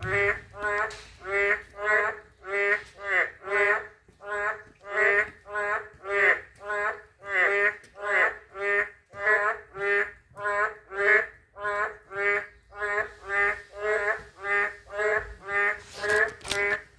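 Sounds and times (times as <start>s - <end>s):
frogs croaking: 0.0s - 16.9s.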